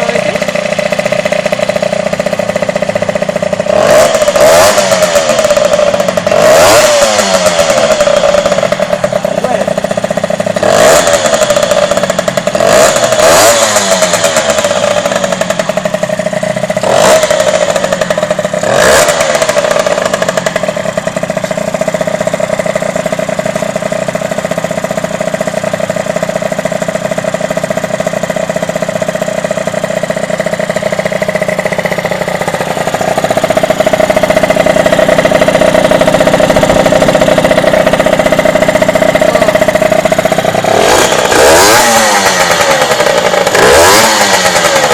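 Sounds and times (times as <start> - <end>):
two-stroke motorcycle engine running: 0.0 - 44.9.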